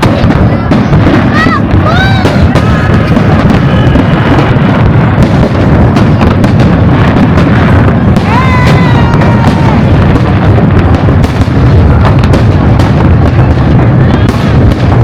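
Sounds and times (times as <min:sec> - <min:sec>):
fireworks bursts and crackles: 0:00.0 - 0:15.0.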